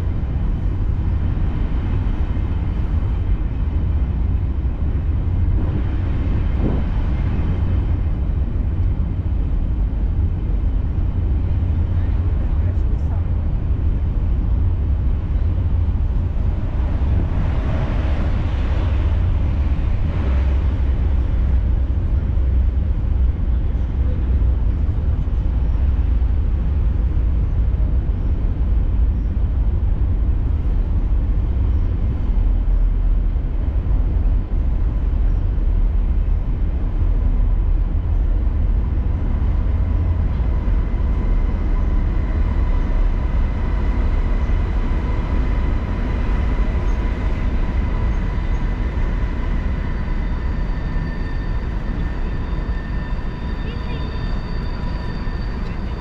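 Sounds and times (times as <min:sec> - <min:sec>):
train rumbling over steel bridge: 0:00.0 - 0:56.0.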